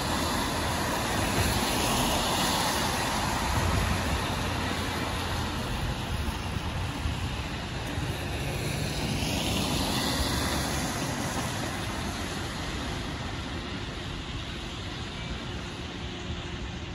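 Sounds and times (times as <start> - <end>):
car tyres hissing on wet road: 0.0 - 16.6
low rumble of engines: 0.0 - 16.9.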